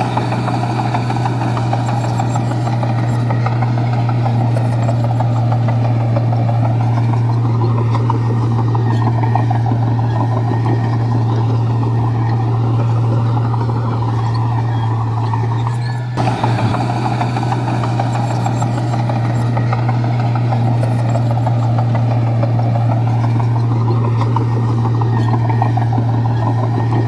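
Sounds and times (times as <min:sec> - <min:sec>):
bulldozer diesel engine droning: 0:00.0 - 0:27.0
bulldozer track and blade noise: 0:00.0 - 0:27.0.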